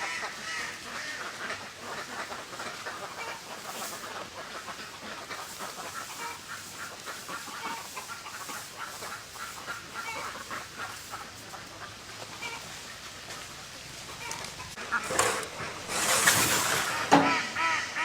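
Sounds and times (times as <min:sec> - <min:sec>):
ducks quacking: 0:00.0 - 0:18.0.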